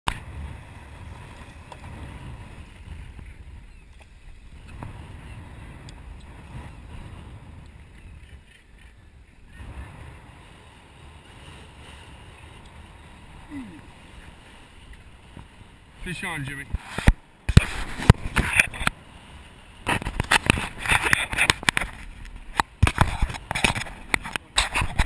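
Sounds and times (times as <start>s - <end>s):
wind: 0.0s - 25.0s
ocean water noise: 0.1s - 25.0s.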